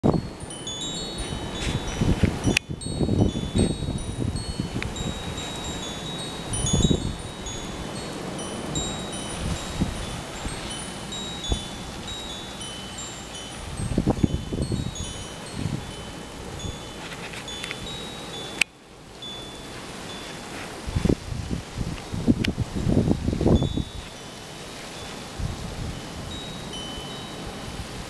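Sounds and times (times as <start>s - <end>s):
wind buffeting the microphone: 0.0s - 28.0s
wind chimes tinkling: 0.0s - 28.0s.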